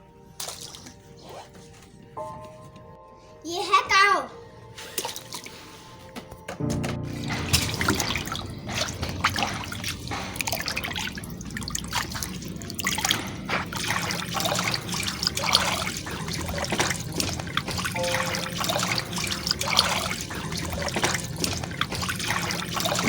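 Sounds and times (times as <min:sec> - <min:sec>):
water splashing and trickling: 0:00.3 - 0:01.2, 0:04.7 - 0:23.0.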